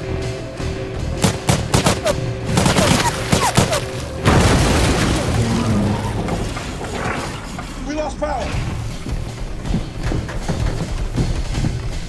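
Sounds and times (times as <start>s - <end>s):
tense film score: 0.0s - 12.0s.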